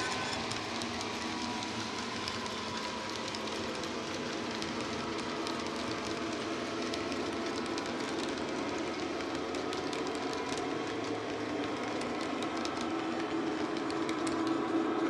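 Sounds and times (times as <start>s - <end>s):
model train wagons rolling on track: 0.0s - 15.0s.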